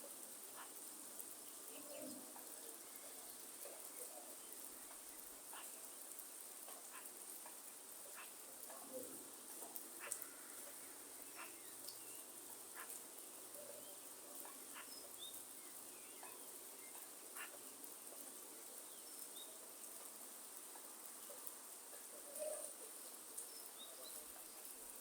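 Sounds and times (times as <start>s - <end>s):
single raindrops falling: 0.0s - 25.0s
soft rain hiss: 0.0s - 25.0s.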